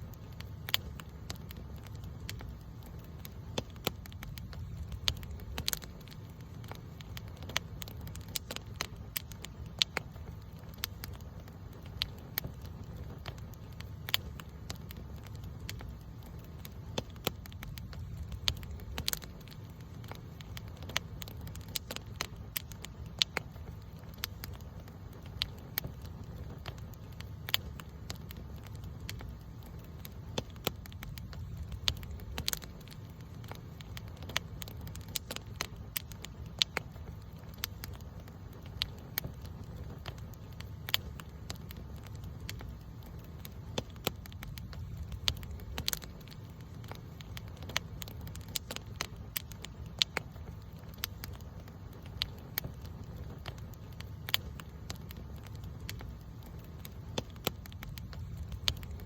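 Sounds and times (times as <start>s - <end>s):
campfire crackling: 0.0s - 59.0s
fire pops and snaps: 0.0s - 59.0s
low rumble of flames: 0.0s - 59.0s.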